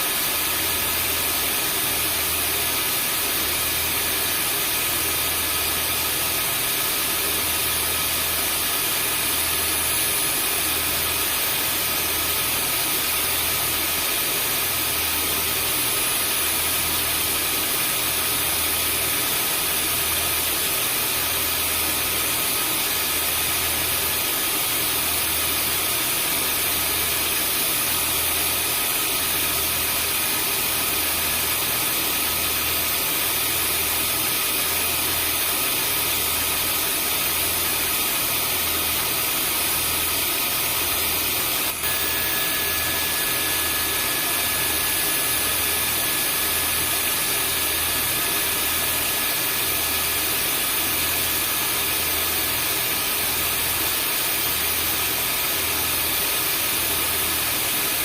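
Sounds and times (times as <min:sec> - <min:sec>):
vacuum cleaner motor running: 0:00.0 - 0:58.0.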